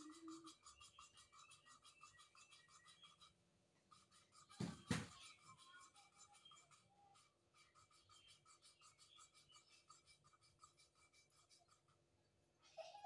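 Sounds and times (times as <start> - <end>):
rhythmic gritty rasping of valve lapping: 0.0 - 12.9.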